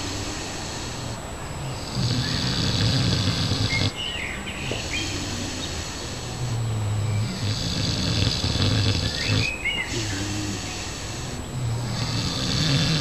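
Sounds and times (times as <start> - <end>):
birds chirping: 0.0 - 13.0
pigs snoring: 0.0 - 13.0.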